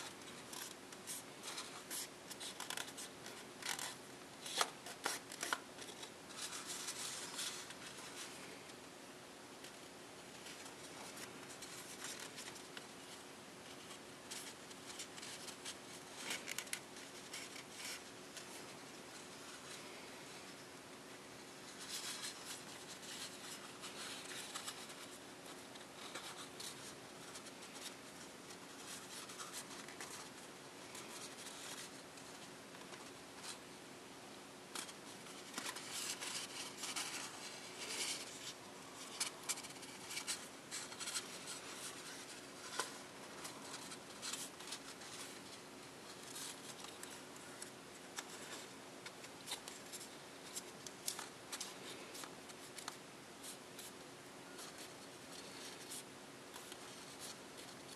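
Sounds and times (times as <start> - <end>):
paper rustling and crinkling: 0.0 - 8.8, 9.6 - 20.6, 21.6 - 33.7, 34.7 - 57.9
faint steady hum: 0.0 - 57.9.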